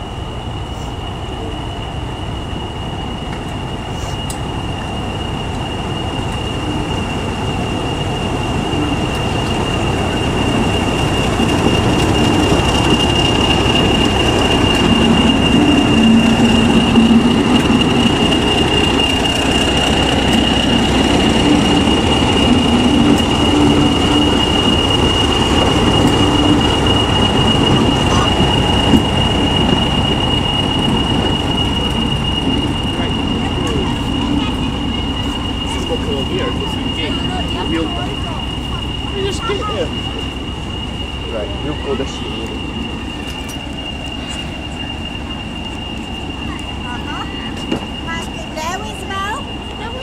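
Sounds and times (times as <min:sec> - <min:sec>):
diesel locomotive engine rumbling: 0:00.0 - 0:50.0
turbocharger whistle: 0:03.8 - 0:50.0.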